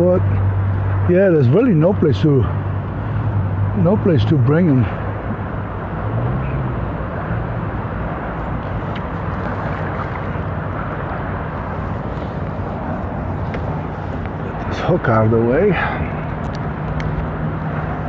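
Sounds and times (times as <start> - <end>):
low engine drone: 0.0 - 18.0
outdoor noise: 0.0 - 18.0.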